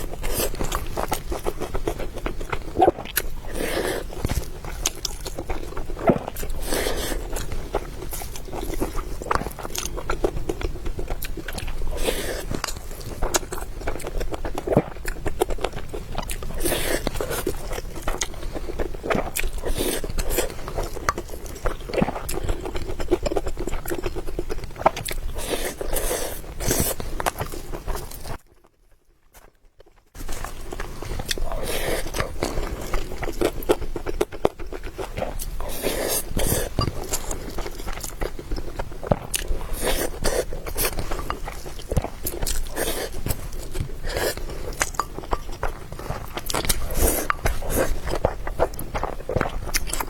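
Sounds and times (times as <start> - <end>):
biting and chewing: 0.0 - 50.0.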